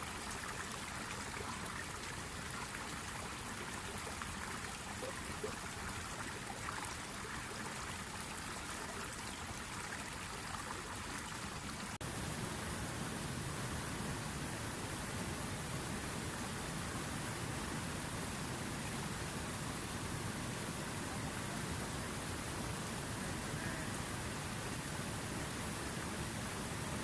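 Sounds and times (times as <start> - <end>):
river water flowing: 0.0 - 27.0.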